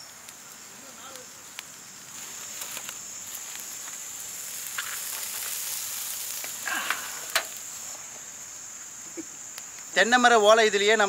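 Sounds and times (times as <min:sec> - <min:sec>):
meat sizzling on grill: 0:00.0 - 0:11.0.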